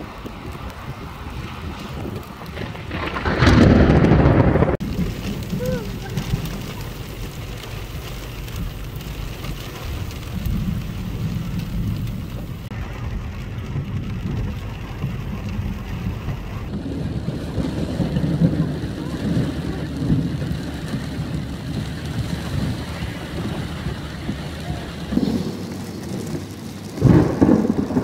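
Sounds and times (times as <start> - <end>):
rush of rain noise: 0.0 - 28.0
steady low rumble: 0.0 - 28.0.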